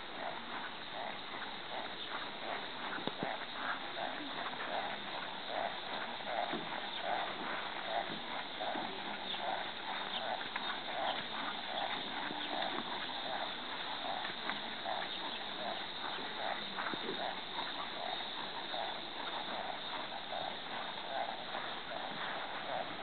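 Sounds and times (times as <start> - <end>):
horse hoofbeats on soft dirt: 0.0 - 23.0.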